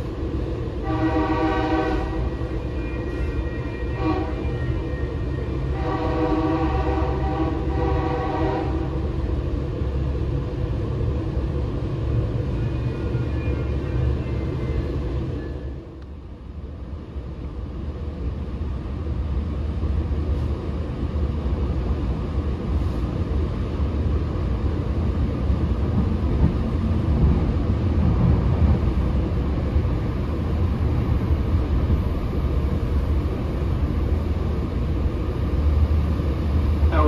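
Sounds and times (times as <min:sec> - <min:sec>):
train rumble inside car: 0:00.0 - 0:37.0.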